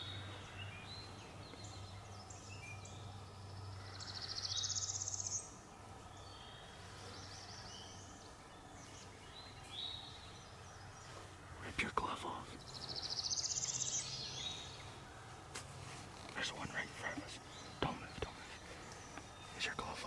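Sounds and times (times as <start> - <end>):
low steady hum: 0.0 - 20.0
songbirds chirping: 0.0 - 20.0.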